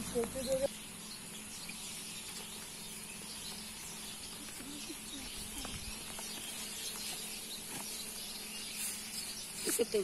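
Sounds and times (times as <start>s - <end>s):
faint bird calls: 0.0s - 10.0s
insects chirping: 0.0s - 10.0s.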